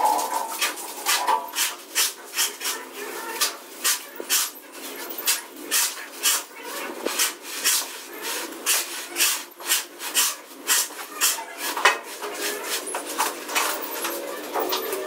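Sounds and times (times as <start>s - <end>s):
trowel scraping wet cement: 0.0s - 15.0s.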